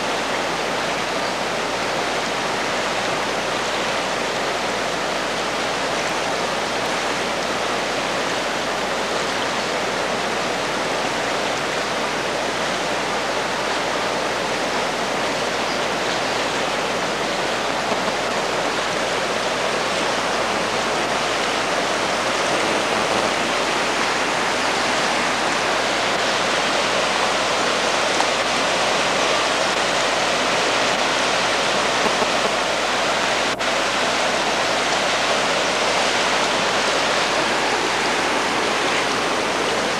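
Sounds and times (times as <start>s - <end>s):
flood water rushing: 0.0s - 39.9s.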